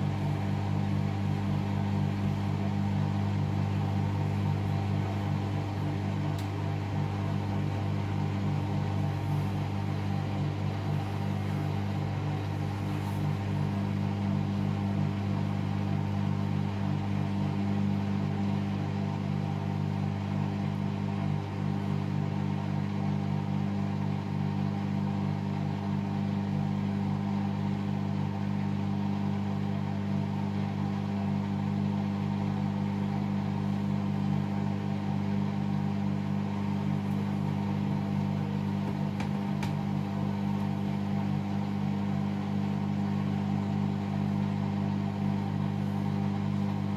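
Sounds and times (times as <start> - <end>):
washer-dryer motor hum: 0.0 - 46.9.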